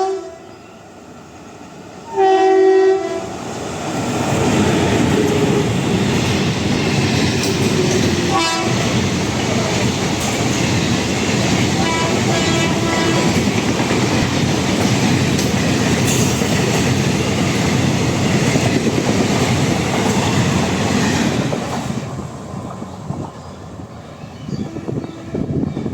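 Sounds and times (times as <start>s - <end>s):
train passing at speed: 0.0s - 25.9s.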